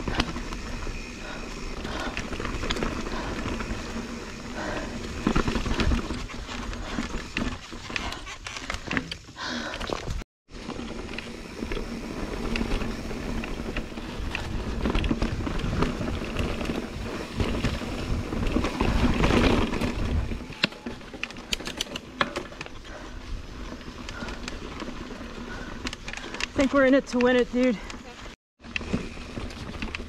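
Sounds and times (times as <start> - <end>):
bike rattling: 0.0 - 30.0
bike tyre noise: 0.0 - 30.0.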